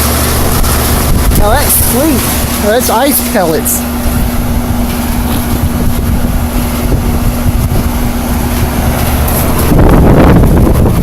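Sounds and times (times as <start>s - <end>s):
heat pump fan spinning: 0.0s - 11.0s
steady hum: 0.0s - 11.0s
wind rumble on microphone: 0.0s - 11.0s.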